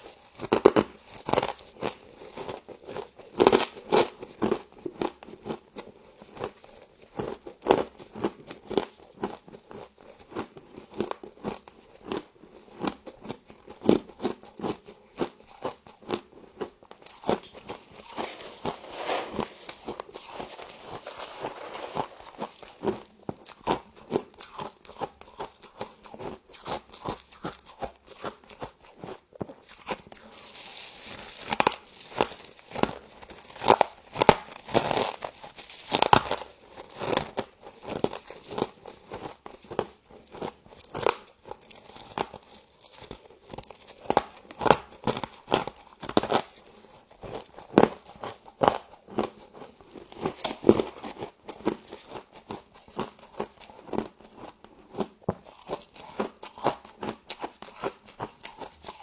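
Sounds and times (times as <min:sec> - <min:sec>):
crunching and chewing frost: 0:00.0 - 0:59.0.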